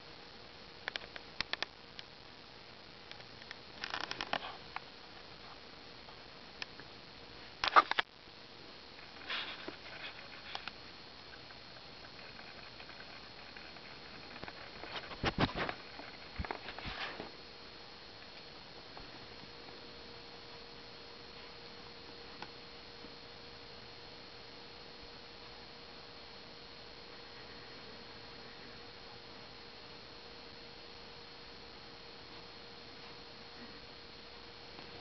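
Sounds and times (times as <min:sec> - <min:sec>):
faint hum: 0:00.0 - 0:35.0
steady hiss: 0:00.0 - 0:35.0.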